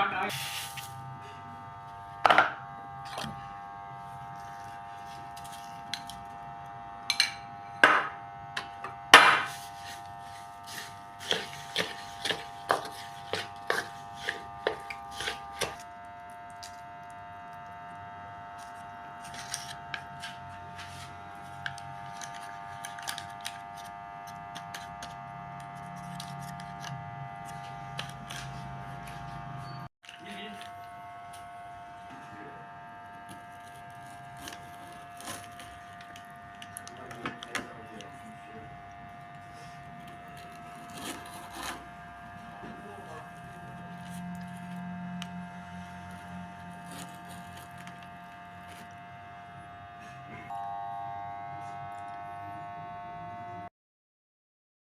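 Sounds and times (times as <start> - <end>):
steady electric hum: 0.0 - 53.7.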